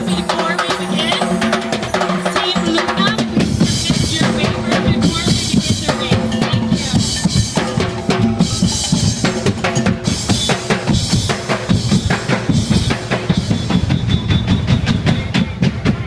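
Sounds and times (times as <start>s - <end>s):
drums marching rhythm: 0.0s - 16.0s.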